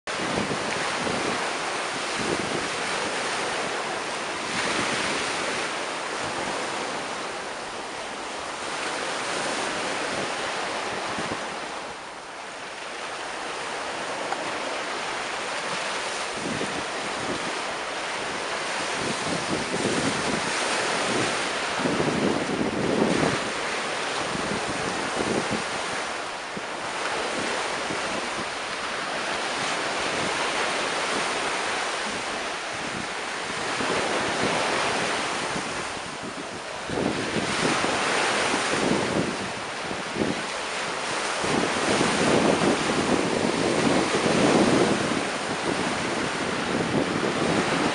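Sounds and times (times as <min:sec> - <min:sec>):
waves washing up beach: 0:00.1 - 0:47.9
wind buffeting microphone: 0:00.1 - 0:47.9.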